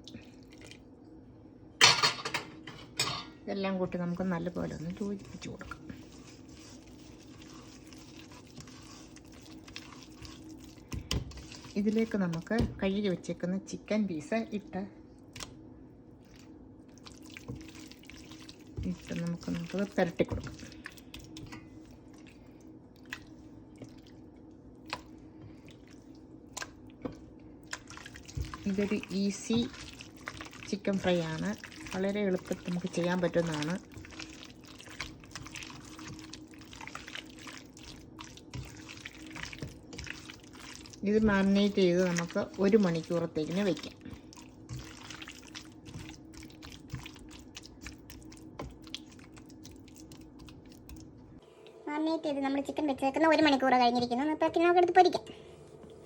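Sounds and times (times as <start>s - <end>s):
hands mixing meat in wet marinade: 0.0s - 1.1s, 3.6s - 51.4s.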